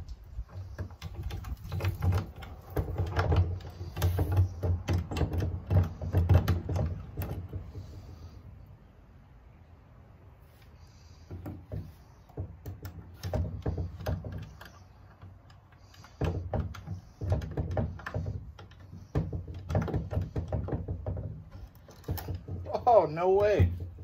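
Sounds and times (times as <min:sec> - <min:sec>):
knocks and rattles against wood: 0:00.0 - 0:08.4, 0:11.2 - 0:24.0.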